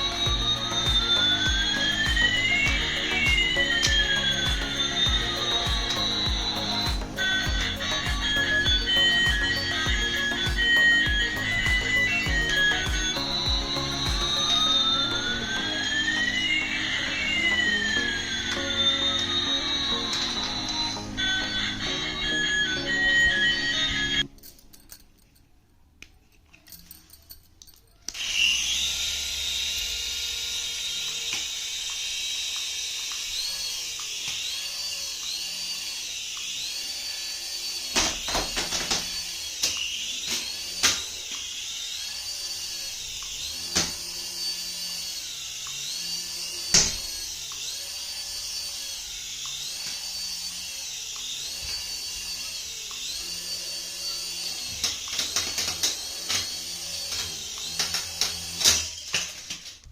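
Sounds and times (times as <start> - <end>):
toy motor whining: 0.0 - 59.9.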